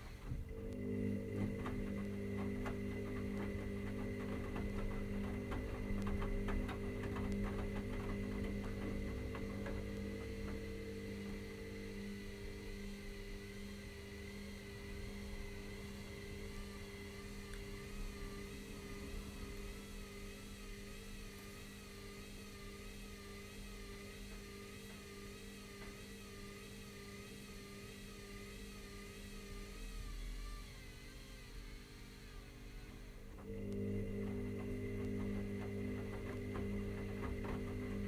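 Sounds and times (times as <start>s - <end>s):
steady hum: 0.0s - 38.0s
washing machine motor whine: 0.0s - 38.0s.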